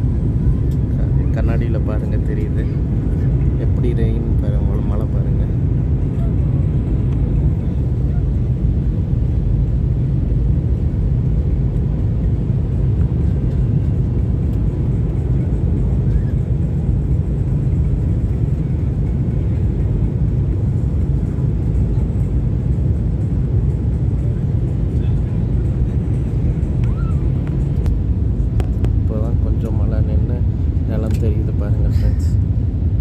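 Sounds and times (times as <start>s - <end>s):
jet cabin engine rumble: 0.0s - 33.0s.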